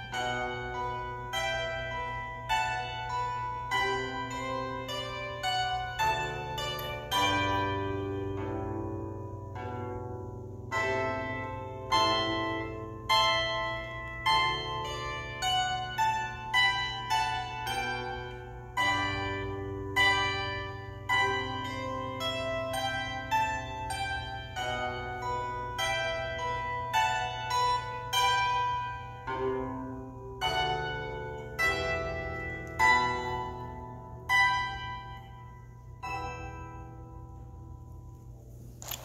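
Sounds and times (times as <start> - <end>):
plucked bandura melody: 0.0 - 39.0.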